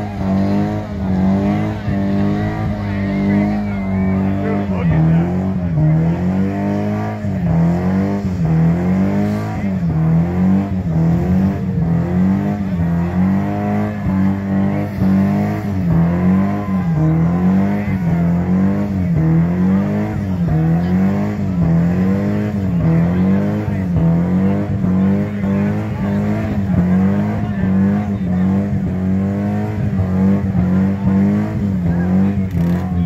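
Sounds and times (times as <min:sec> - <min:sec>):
car engine revving hard: 0:00.0 - 0:33.0.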